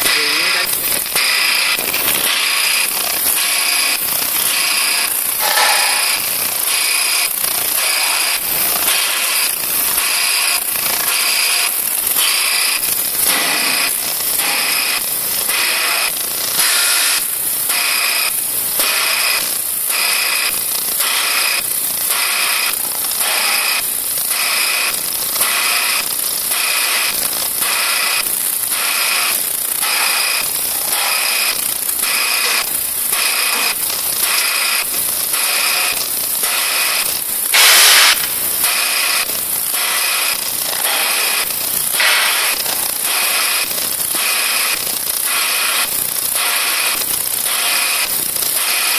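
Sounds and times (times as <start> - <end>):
vibrating sieve machine hissing: 0.0 - 48.9.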